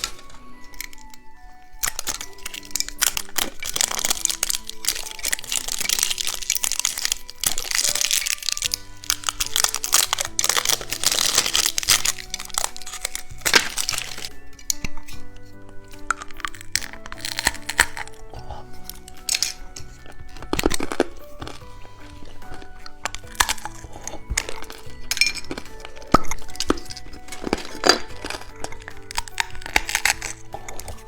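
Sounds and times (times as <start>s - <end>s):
candy wrapper crinkling: 0.0s - 31.0s
soft background music: 0.0s - 31.0s.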